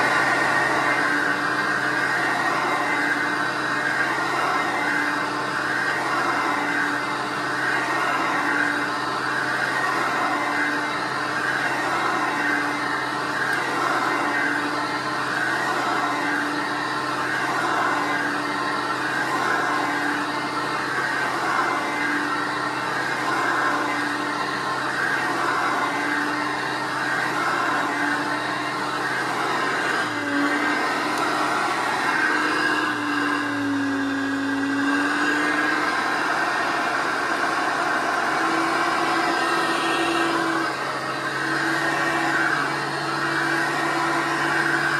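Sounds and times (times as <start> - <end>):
upright vacuum cleaner on carpet: 0.0 - 44.9.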